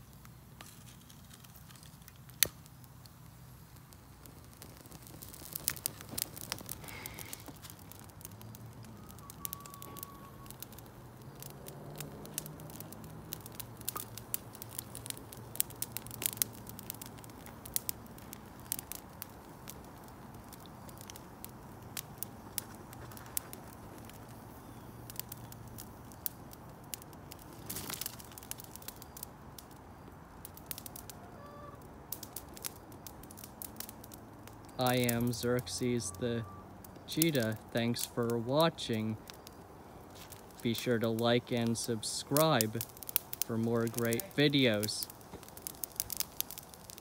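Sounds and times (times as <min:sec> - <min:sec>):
twigs snapping in fire: 0:00.0 - 0:31.2, 0:31.8 - 0:47.0
campfire crackling: 0:00.0 - 0:47.0.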